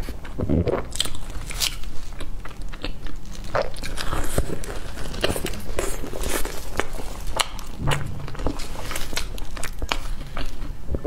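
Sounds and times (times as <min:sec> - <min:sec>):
chewing and mouth sounds: 0:00.0 - 0:11.0.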